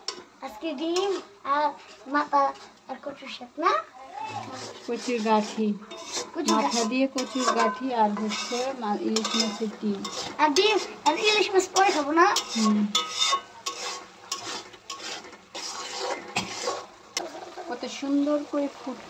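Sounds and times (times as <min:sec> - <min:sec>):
spatula scraping metal pan: 0:00.0 - 0:03.3, 0:04.3 - 0:17.0
light frying sizzle: 0:00.0 - 0:19.0.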